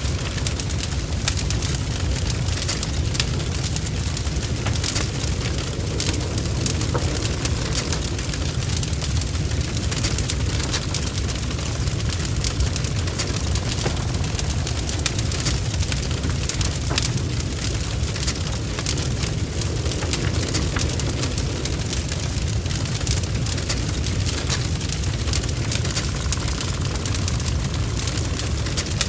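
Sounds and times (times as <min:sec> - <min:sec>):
fire crackling and spitting: 0:00.0 - 0:29.0
fire deep rumble: 0:00.0 - 0:29.0.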